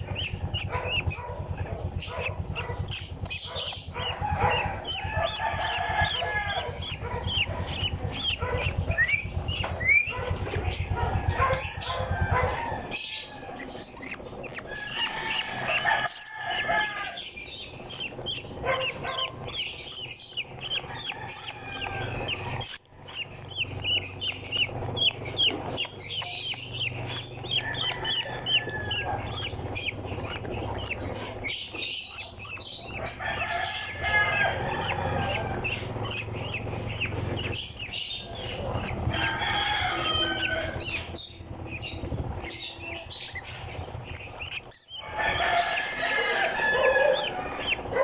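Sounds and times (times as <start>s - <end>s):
bird squeaky chirps: 0.0s - 48.0s
low rattling buzz: 0.0s - 48.0s.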